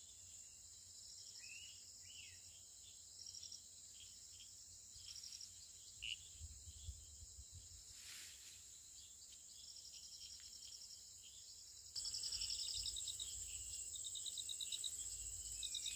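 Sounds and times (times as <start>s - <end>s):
crickets chirring: 0.0s - 15.9s.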